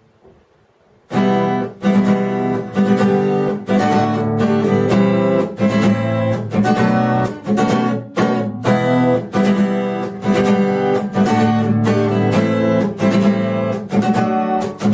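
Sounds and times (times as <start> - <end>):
acoustic guitar strumming chords: 1.1 - 14.9.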